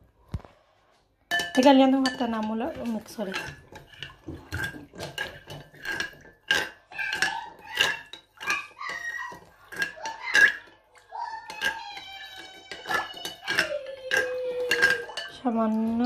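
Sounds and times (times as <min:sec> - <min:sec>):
teaspoon clinking against glass bowl: 0:01.3 - 0:16.0.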